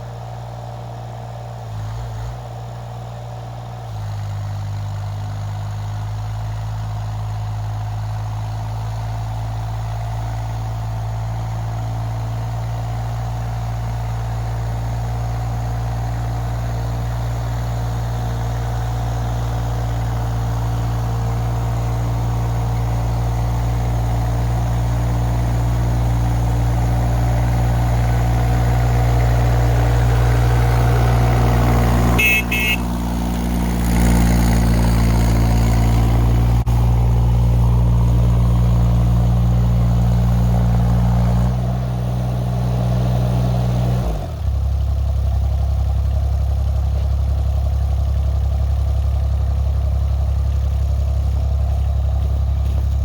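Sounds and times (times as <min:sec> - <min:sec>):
mini excavator engine running: 0:00.0 - 0:53.0.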